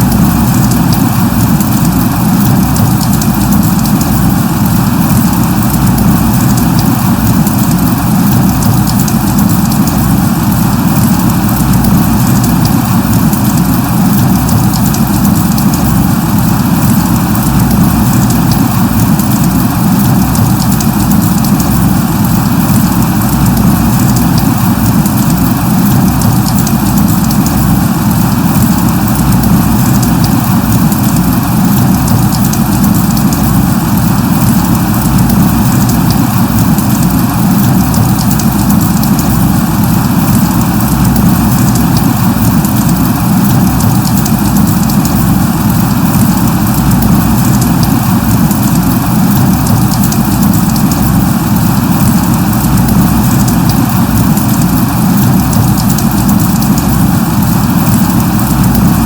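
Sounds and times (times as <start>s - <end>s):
light rain hissing: 0.0s - 59.0s
raindrops pattering: 0.0s - 59.0s.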